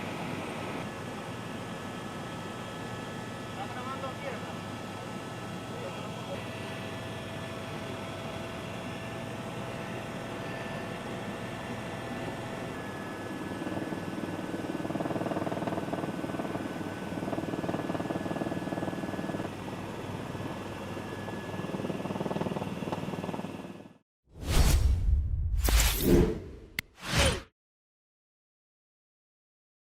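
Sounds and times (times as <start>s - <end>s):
helicopter flying: 0.0s - 24.0s.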